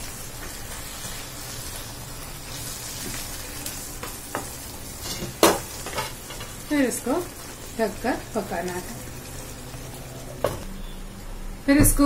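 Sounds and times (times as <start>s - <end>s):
curry sizzling in a pan: 0.0s - 11.5s.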